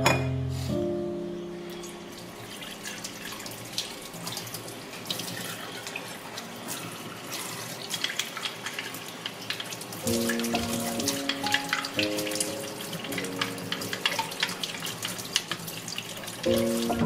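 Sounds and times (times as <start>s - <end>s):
tap water running into metal basket: 1.7s - 17.0s
water splashing into steel sink: 2.0s - 17.0s.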